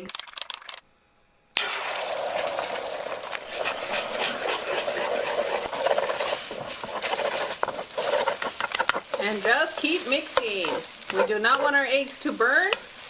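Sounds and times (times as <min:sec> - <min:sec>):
eggs sizzling in hot oil: 0:01.6 - 0:13.0
wooden spatula scraping: 0:02.4 - 0:13.0.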